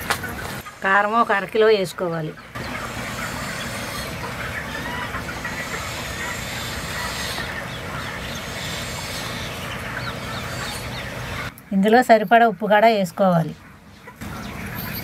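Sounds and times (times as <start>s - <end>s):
hens clucking: 0.0s - 15.0s
small birds chirping: 0.0s - 15.0s.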